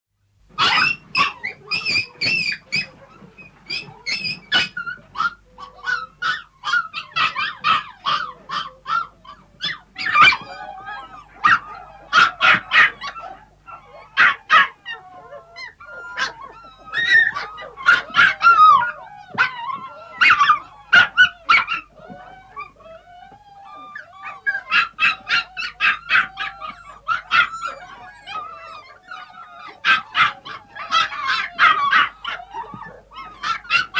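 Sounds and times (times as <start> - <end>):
puppies whining: 0.5 - 33.9
puppies yapping: 0.5 - 33.9.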